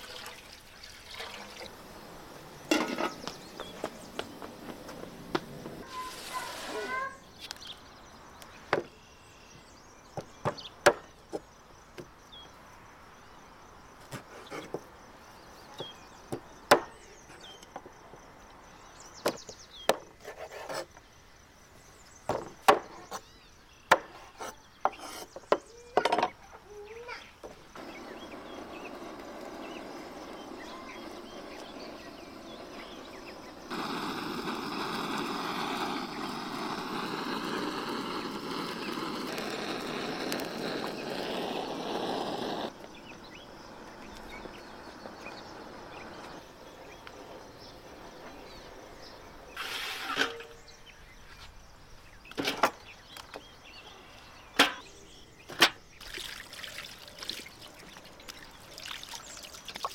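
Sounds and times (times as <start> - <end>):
steady hissing noise: 0.0 - 59.9.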